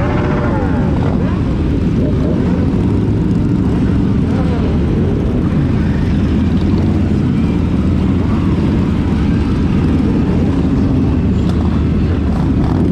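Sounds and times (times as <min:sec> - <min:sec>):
motorcycle engines rumbling: 0:00.0 - 0:12.9
road noise: 0:00.0 - 0:12.9.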